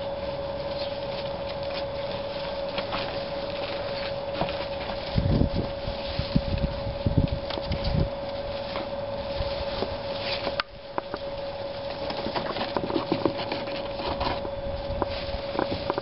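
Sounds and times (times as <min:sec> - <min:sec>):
dry hay rustling: 0:00.0 - 0:16.0
steady humming tone: 0:00.0 - 0:16.0.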